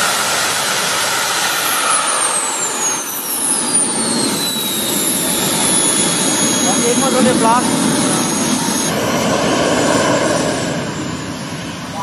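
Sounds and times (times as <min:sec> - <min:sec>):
jet engine rush and whine: 0:00.0 - 0:12.0.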